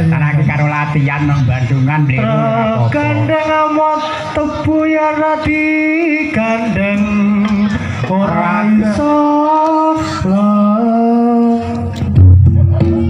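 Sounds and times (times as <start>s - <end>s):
person singing slow melody: 2.2s - 13.0s.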